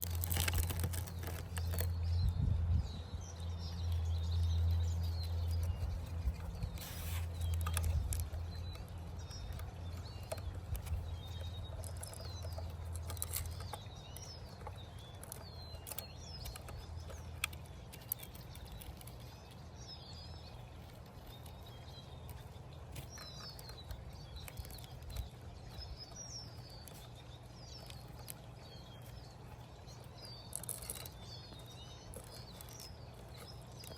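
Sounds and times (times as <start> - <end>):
low steady rumble: 0.0 - 33.9
small birds chirping: 0.0 - 33.9.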